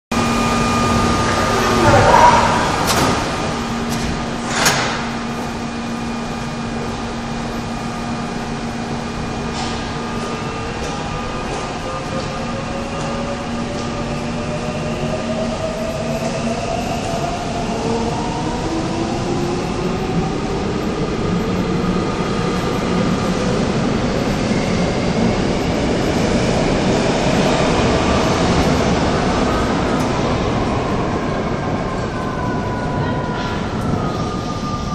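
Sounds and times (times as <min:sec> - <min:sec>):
train doors closing: 0:00.5 - 0:34.9.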